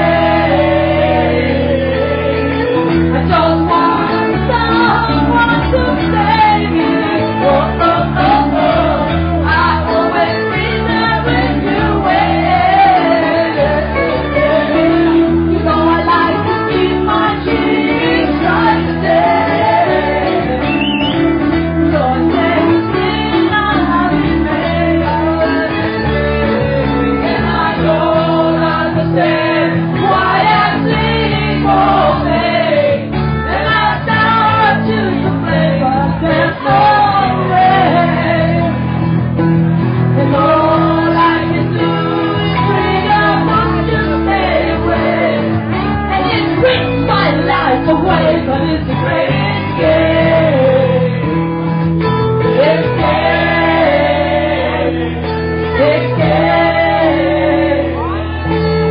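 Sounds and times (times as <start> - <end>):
woman singing into microphone: 0.0 - 39.0, 40.1 - 51.4, 52.4 - 58.9
live band playing: 0.0 - 58.9.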